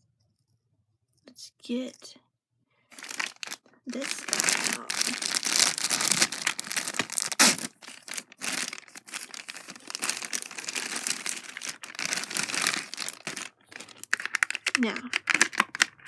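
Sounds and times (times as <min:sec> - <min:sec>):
packaging crinkling and tearing: 0:02.9 - 0:16.0.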